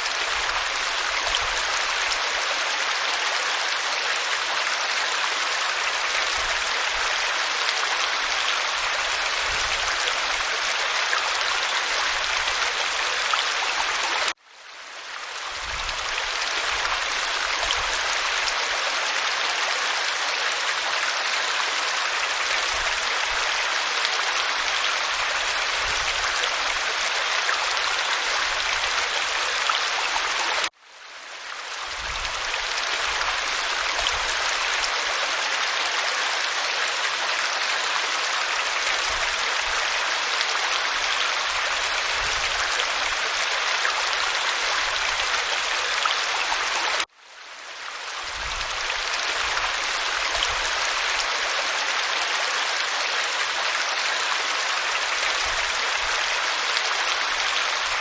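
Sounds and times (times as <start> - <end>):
waterfall rushing over rock: 0.0 - 14.4, 15.4 - 30.7, 31.7 - 47.1, 48.0 - 58.0.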